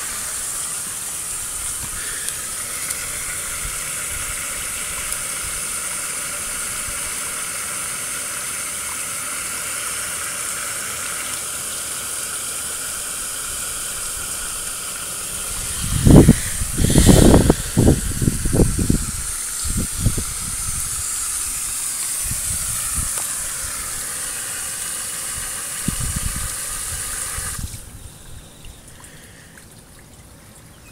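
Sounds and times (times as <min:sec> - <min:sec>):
fountain water spraying: 0:00.0 - 0:29.6.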